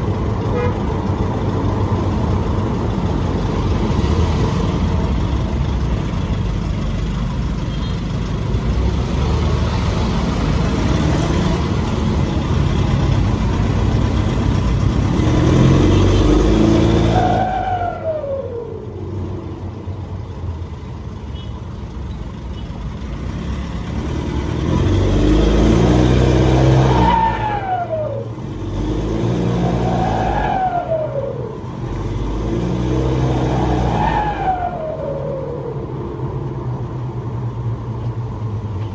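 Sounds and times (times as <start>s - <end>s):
turbocharged engine pulling hard: 0.0s - 20.0s, 22.9s - 38.0s.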